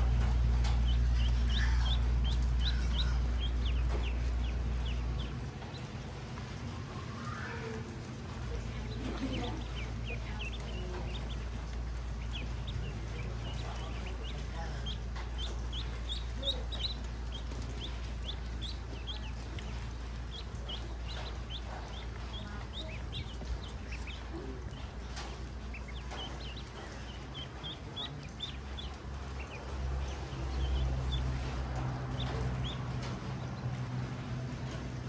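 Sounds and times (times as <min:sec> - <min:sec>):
ducklings peeping: 0:00.0 - 0:35.0
low hum: 0:00.0 - 0:35.0.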